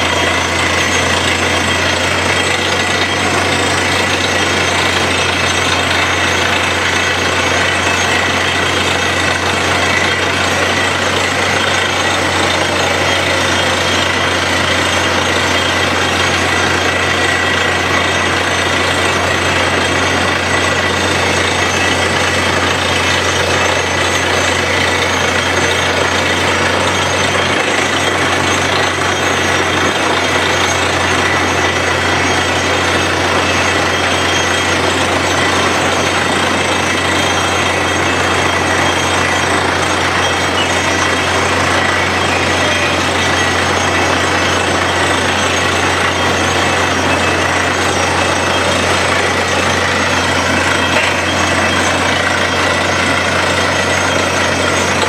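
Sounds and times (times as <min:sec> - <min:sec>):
drilling rig mechanical din: 0:00.0 - 0:55.0.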